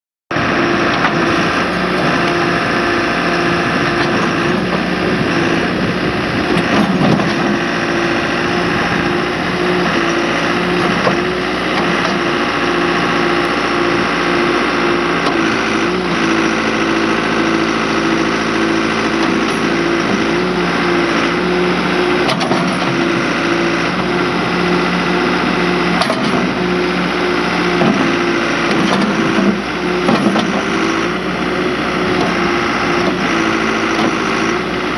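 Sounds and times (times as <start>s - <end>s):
diesel engine running: 0.3s - 34.9s.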